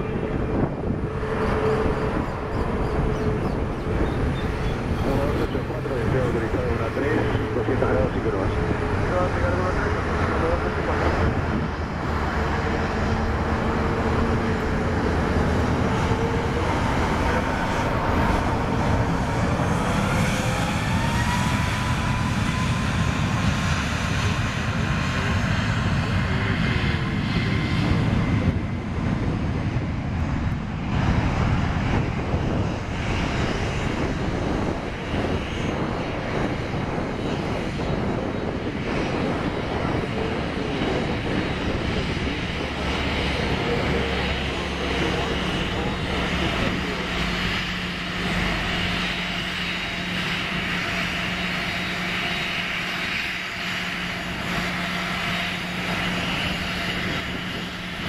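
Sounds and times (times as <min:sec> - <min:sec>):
jet engines roaring: 0:00.0 - 0:58.0
second jet engines running: 0:00.0 - 0:58.0.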